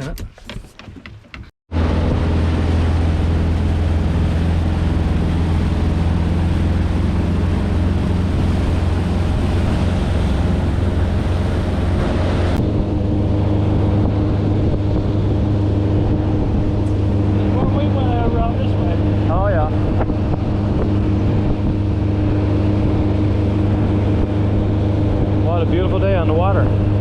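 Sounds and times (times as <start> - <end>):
boat motor droning: 1.7 - 27.0.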